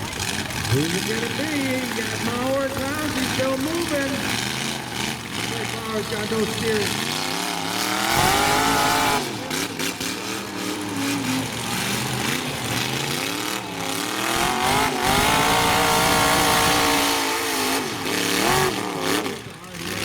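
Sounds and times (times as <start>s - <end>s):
truck engines revving hard: 0.0s - 20.0s.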